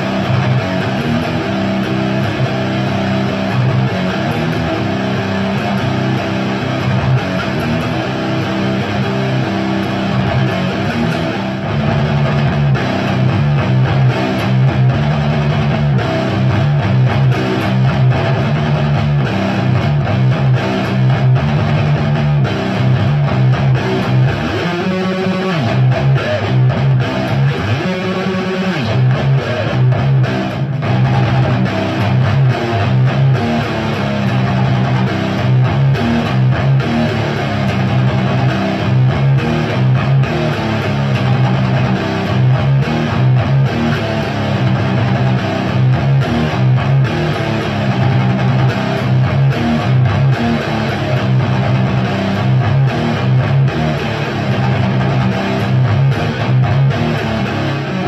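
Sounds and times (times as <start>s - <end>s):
electric guitar riffing: 0.0s - 58.0s.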